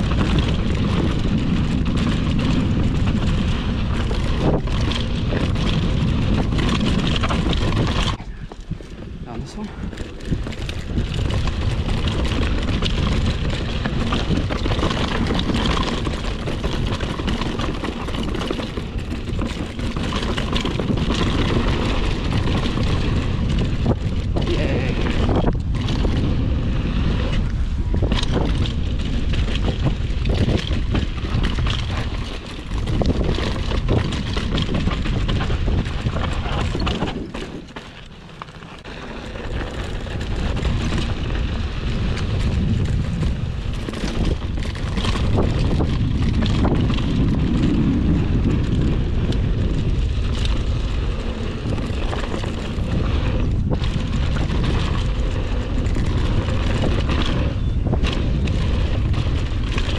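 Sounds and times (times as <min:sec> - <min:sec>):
bike rattling over bumps: 0:00.0 - 0:59.9
tyres crunching over rocky dirt: 0:00.0 - 0:59.9
wind buffeting microphone: 0:00.0 - 0:59.9.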